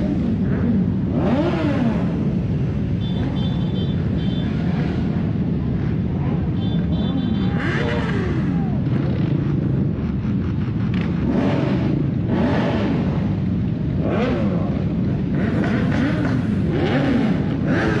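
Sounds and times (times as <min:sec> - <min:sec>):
motorcycle engine revving: 0:00.0 - 0:18.0
road noise rumble: 0:00.0 - 0:18.0.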